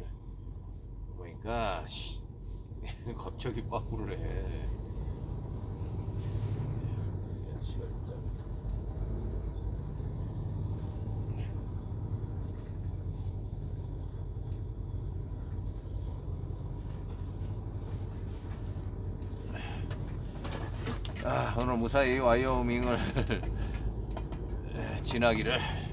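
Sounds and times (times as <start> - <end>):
truck diesel engine rumble: 0.0 - 25.9.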